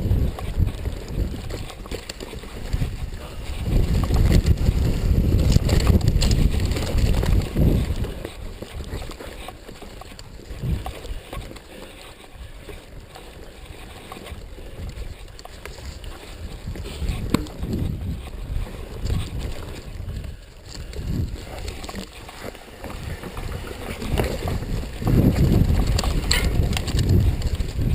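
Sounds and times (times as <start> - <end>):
wind buffeting microphone: 0.0 - 11.6, 12.3 - 27.9.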